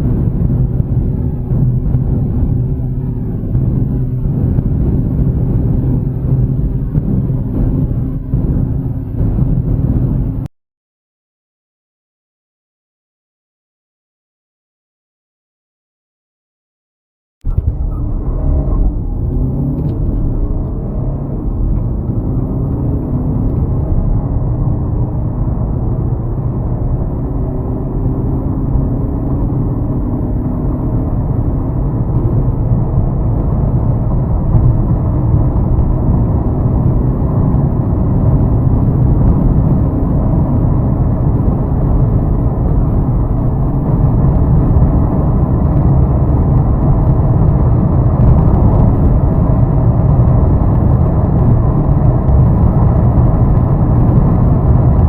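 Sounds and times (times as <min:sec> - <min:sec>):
car engine accelerating: 0:00.0 - 0:10.5, 0:17.5 - 0:55.0
road and wind rumble: 0:00.0 - 0:10.5, 0:17.4 - 0:55.0.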